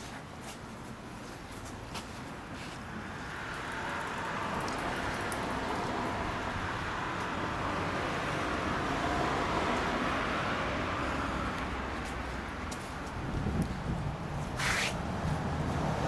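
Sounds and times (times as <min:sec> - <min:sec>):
vehicle passing on street: 0:02.5 - 0:16.0.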